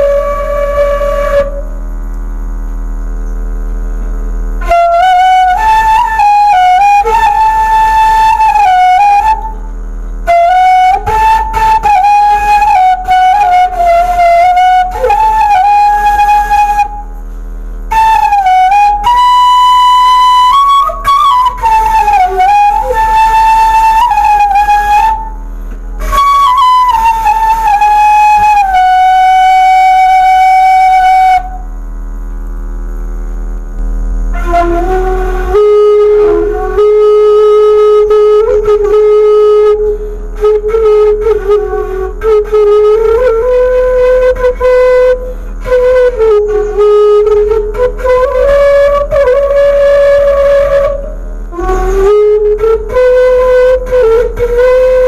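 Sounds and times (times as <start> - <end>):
bamboo flute melody: 0.0 - 2.0, 4.0 - 31.8, 33.8 - 55.0.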